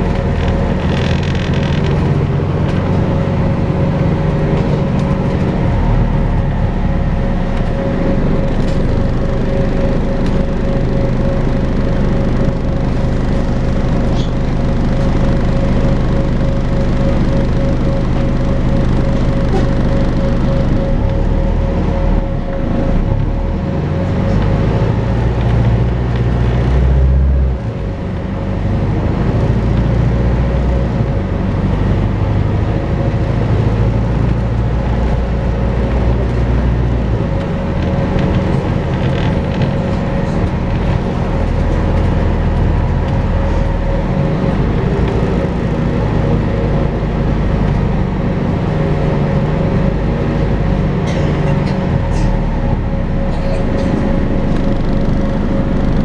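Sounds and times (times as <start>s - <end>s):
bus whining: 0.0s - 56.0s
engine and road rumble: 0.0s - 56.0s.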